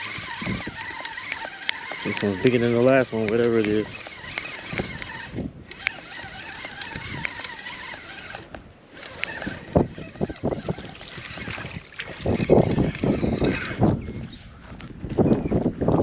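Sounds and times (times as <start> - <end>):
fish splashing in water: 0.0 - 13.1.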